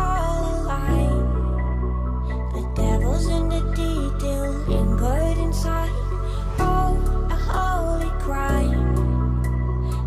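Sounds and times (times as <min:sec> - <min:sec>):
pop song with sung melody: 0:00.0 - 0:10.0.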